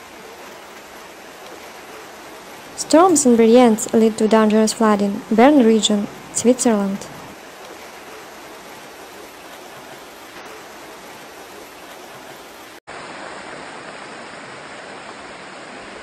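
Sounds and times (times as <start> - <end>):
rushing floodwater: 0.0 - 16.0.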